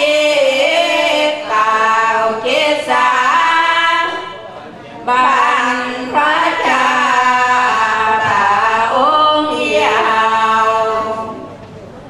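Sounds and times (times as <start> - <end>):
women chanting: 0.0 - 4.4, 5.0 - 11.5.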